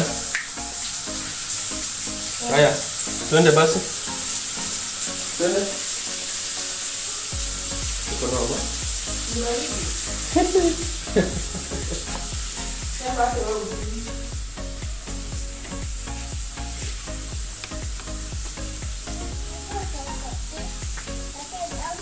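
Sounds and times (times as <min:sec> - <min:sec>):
water running: 0:00.0 - 0:22.0.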